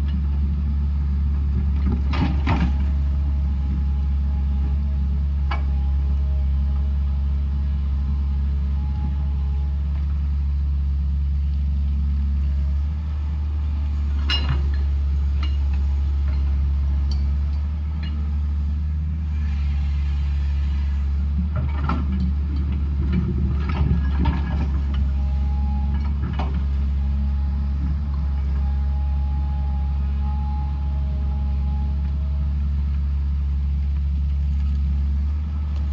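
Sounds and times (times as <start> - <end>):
heavy diesel engine running: 0.0 - 35.9.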